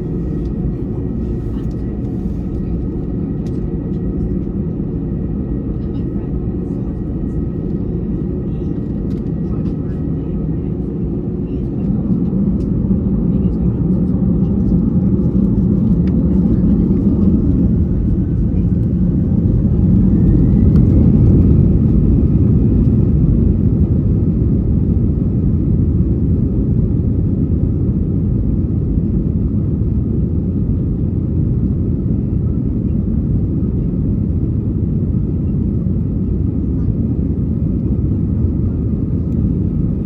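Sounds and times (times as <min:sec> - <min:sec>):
jet engines at takeoff power: 0:00.0 - 0:40.0.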